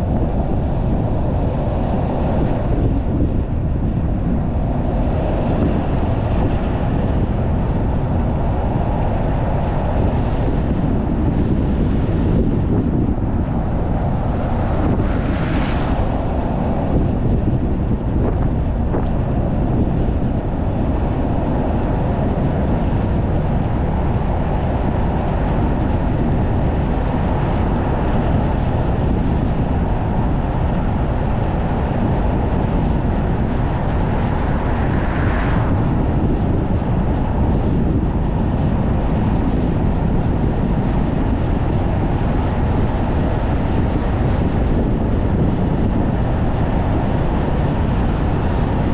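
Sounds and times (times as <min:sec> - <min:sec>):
wind and road noise from car: 0:00.0 - 0:48.9.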